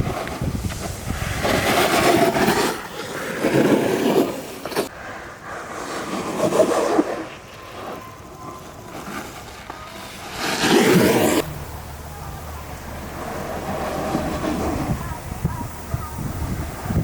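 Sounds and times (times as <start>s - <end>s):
skateboard wheels rumbling and scraping: 0.0s - 17.0s.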